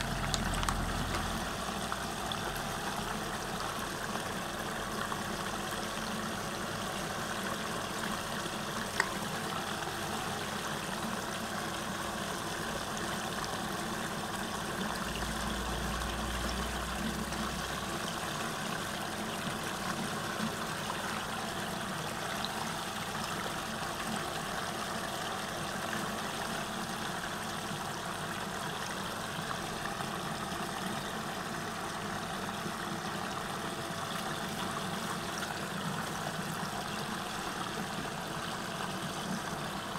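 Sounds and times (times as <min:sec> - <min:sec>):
steady motor hum: 0:00.0 - 0:39.9
water swirling and draining: 0:00.0 - 0:39.9.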